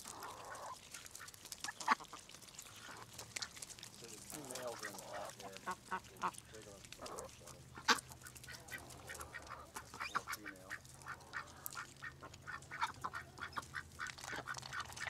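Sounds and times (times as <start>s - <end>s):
duck bills clicking and pecking: 0.0s - 15.0s.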